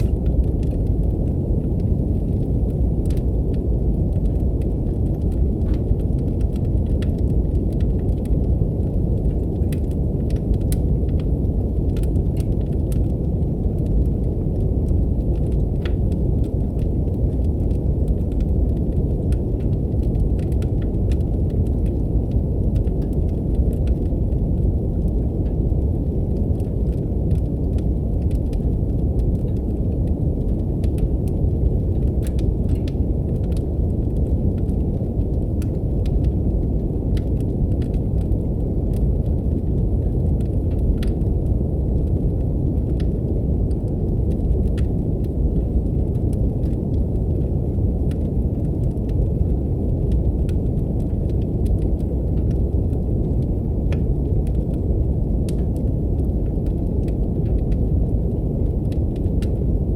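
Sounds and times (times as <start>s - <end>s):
brown noise hiss: 0.0s - 59.9s
fireplace fire crackling: 0.0s - 59.9s.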